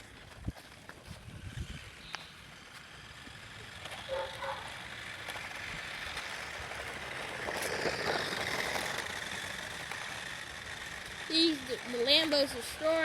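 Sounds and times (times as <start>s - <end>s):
toy car electric motors whining: 0.0s - 13.0s
wheels hissing on ground: 0.0s - 13.0s.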